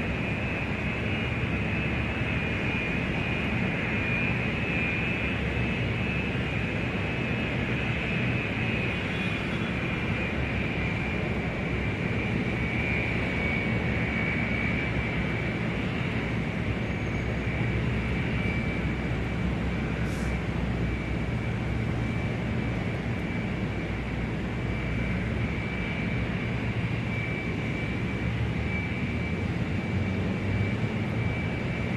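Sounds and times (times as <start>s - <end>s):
aircraft engine running: 0.0s - 31.9s.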